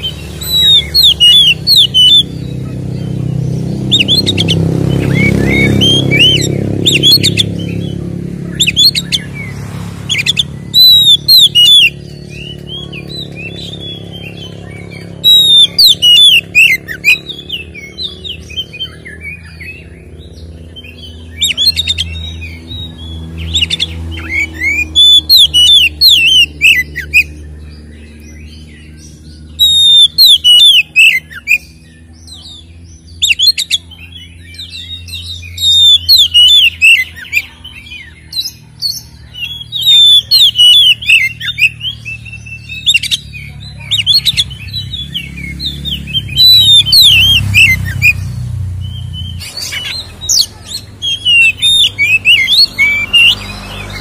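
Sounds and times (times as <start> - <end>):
songbird singing rapid phrases: 0.0 - 54.0.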